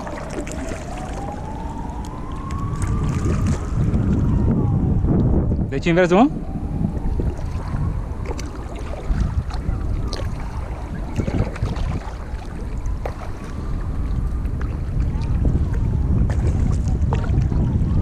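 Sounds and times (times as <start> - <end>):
paddle splashes: 0.0 - 4.2, 6.9 - 18.0
wind buffeting microphone: 0.0 - 18.0.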